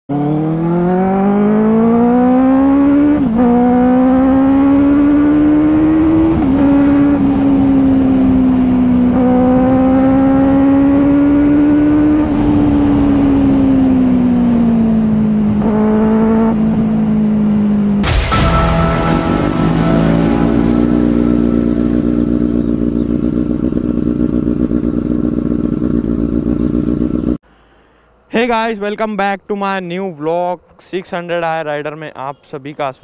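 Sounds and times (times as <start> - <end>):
motorcycle engine accelerating: 0.1 - 27.4.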